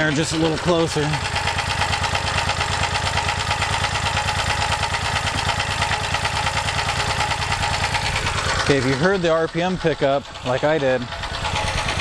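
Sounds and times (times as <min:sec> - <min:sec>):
small generator engine running: 0:00.0 - 0:12.0.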